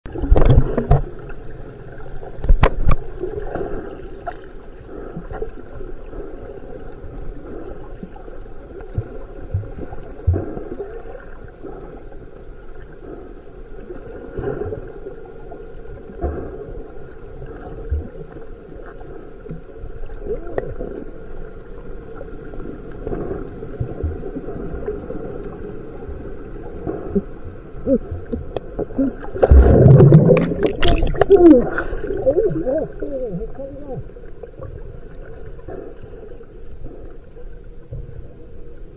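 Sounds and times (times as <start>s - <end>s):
muffled underwater wash: 0.0s - 38.9s.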